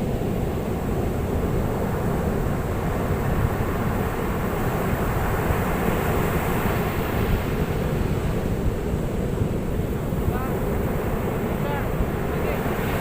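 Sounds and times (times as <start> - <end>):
waves breaking on shore: 0.0 - 13.0.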